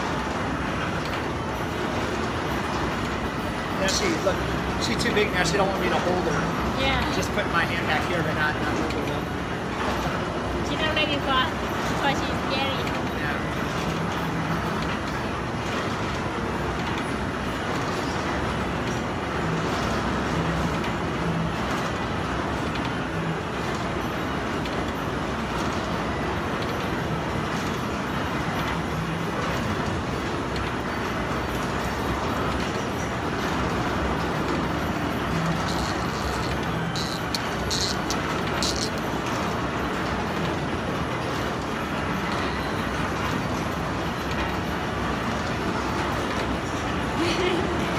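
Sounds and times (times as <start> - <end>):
carousel ride running: 0.0 - 47.9.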